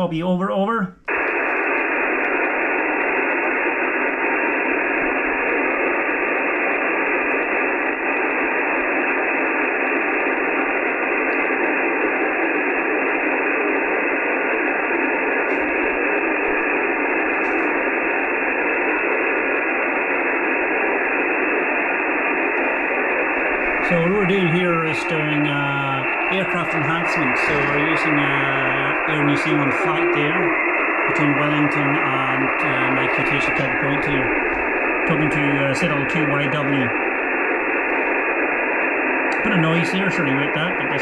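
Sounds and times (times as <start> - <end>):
radio receiver hiss: 0.0 - 41.0.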